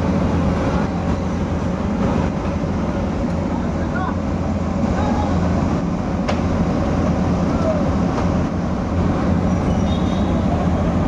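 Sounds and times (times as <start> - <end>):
excavator diesel engine rumble: 0.0 - 11.0.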